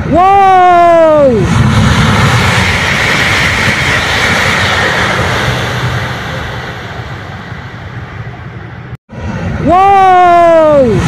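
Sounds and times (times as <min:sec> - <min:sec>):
high-speed train passing: 0:00.0 - 0:11.0.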